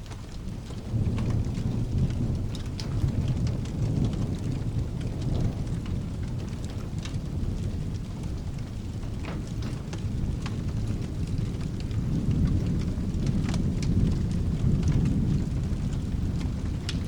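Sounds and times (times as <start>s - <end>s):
low rumble of thunder: 0.0s - 17.0s
steady rain: 0.0s - 17.0s
wood fire crackling and popping: 0.0s - 17.0s.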